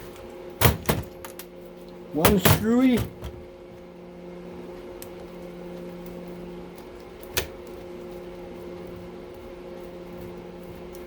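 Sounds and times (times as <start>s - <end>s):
steady electric hum: 0.0s - 11.0s.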